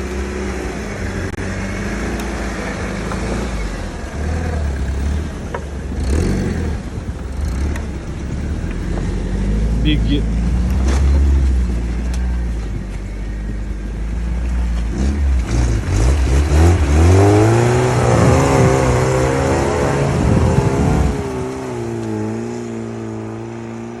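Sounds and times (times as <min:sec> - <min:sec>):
all-terrain vehicle engine revving: 0:00.0 - 0:24.0.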